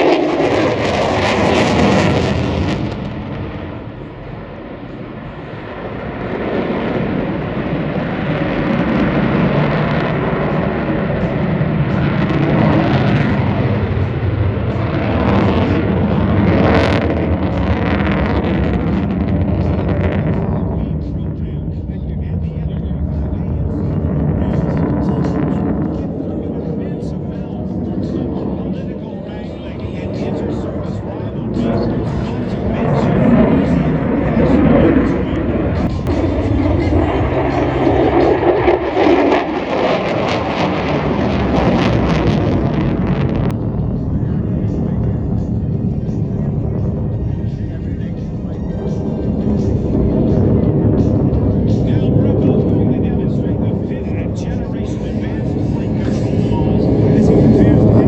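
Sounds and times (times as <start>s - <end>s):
jet engine crackling roar: 0.0s - 58.0s.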